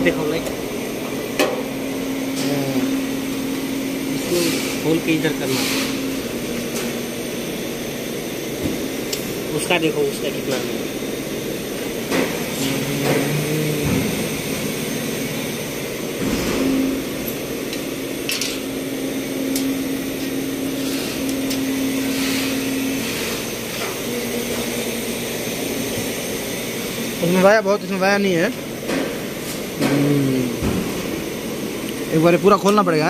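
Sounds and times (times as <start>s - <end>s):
bottle-making machinery running: 0.0s - 33.0s
machine hum: 0.0s - 33.0s.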